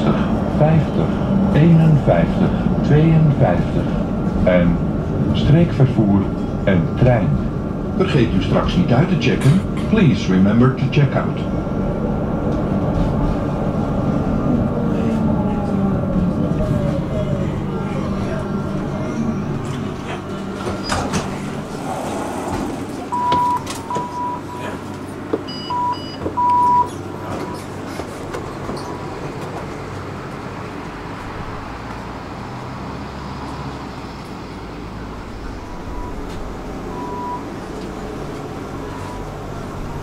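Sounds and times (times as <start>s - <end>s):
street traffic rumble: 0.0s - 40.0s.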